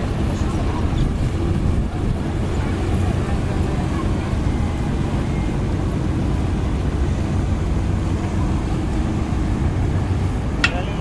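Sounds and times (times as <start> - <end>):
motor boat engine rumbling: 0.0 - 11.0.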